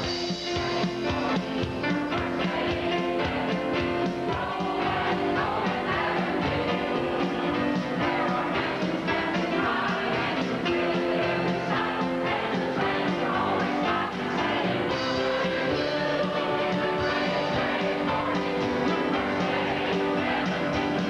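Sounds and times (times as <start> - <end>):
mixed choir singing: 0.3 - 21.0.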